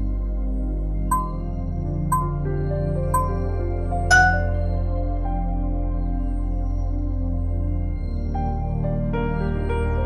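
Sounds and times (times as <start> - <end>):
ambient synth music: 0.0 - 10.0
deep low drone: 0.0 - 10.0.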